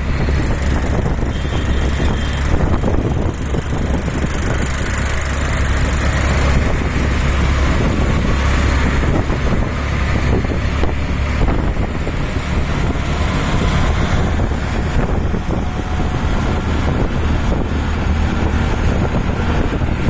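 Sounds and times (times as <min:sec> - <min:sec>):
passing traffic: 0:00.0 - 0:20.0
road noise: 0:00.0 - 0:20.0
small engine humming: 0:00.0 - 0:20.0.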